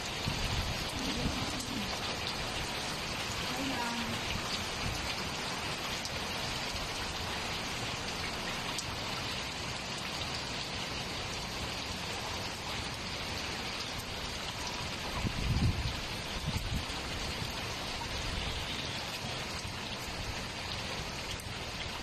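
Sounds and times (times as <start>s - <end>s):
heavy rain on a rooftop: 0.0s - 22.0s.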